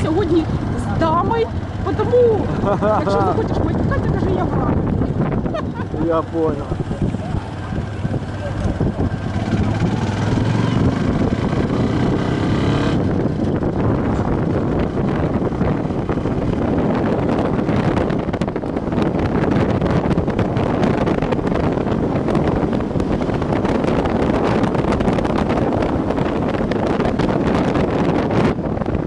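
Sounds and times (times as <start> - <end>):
motorcycle riding noise: 0.0 - 29.0
wind buffeting microphone: 0.0 - 29.0.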